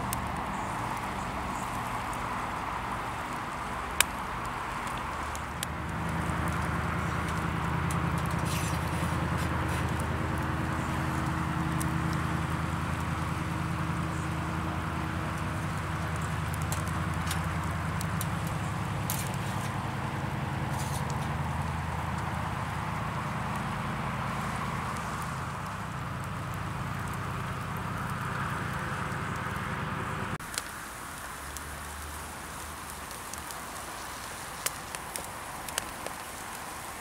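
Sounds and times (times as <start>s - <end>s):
low engine-like hum: 0.0s - 30.4s
constant hiss: 0.0s - 37.0s.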